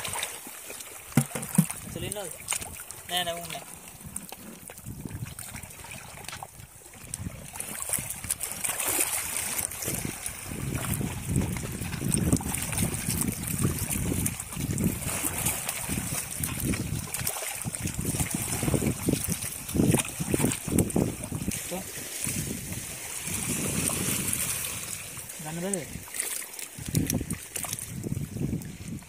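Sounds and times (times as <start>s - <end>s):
seawater washing among rocks: 0.0s - 29.0s
wind noise on microphone: 1.1s - 26.1s, 26.7s - 29.0s.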